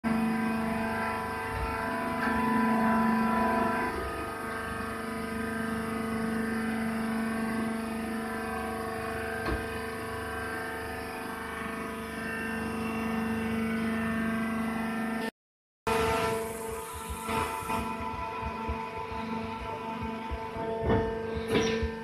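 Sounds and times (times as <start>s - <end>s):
hydraulic baler motor humming: 0.1s - 15.3s, 15.9s - 22.0s.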